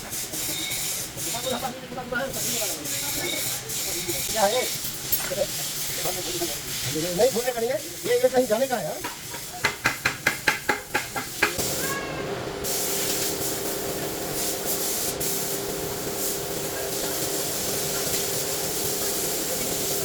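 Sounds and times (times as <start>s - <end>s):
machine hissing with low hum: 0.0s - 9.6s, 11.2s - 20.0s.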